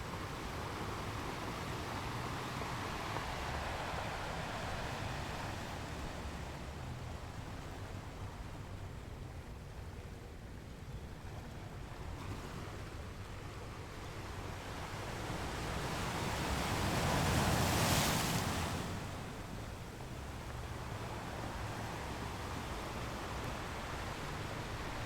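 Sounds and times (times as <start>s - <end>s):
ocean surf rumble: 0.0s - 25.0s.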